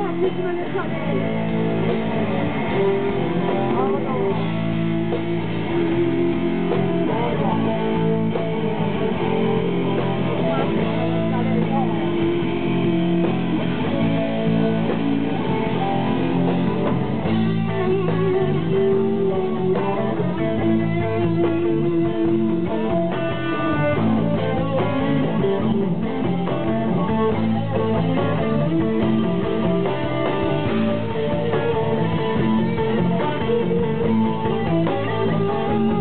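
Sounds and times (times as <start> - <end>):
electric guitar: 0.0 - 36.0
live rock band playing: 0.0 - 36.0.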